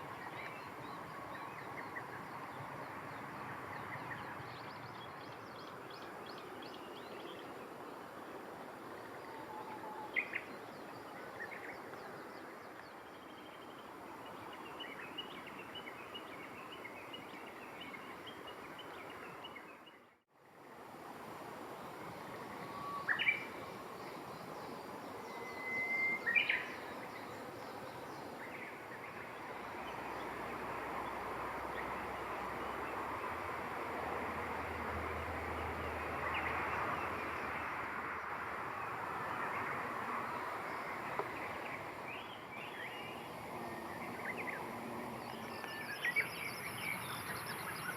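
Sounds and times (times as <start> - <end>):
outdoor background hiss: 0.0 - 47.9.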